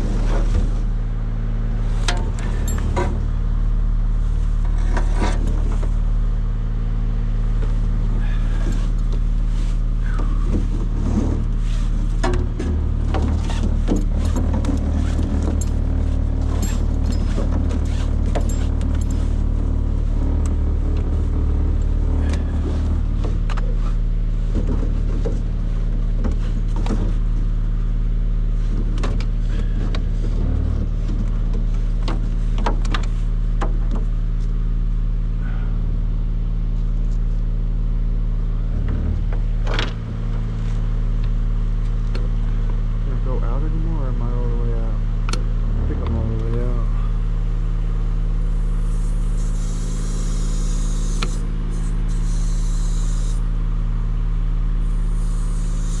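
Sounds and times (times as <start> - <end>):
engine running low: 0.0 - 56.0.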